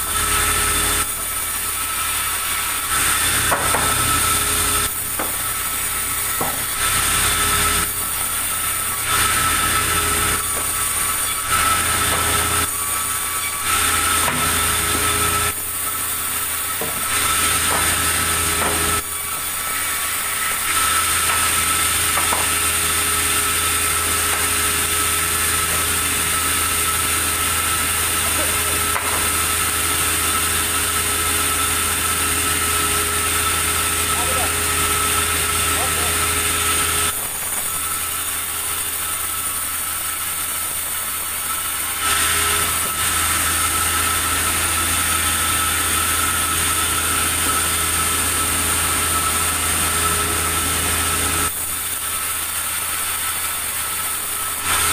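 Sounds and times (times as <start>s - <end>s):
sawmill machinery whining: 0.0s - 54.9s.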